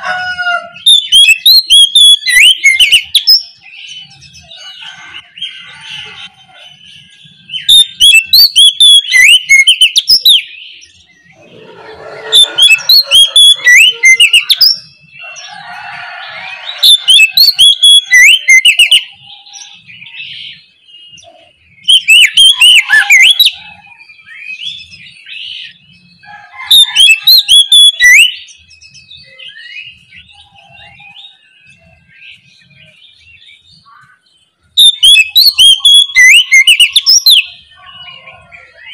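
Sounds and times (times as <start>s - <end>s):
bird song whistles and rattles: 0.8s - 11.6s, 12.3s - 34.2s, 34.8s - 38.9s.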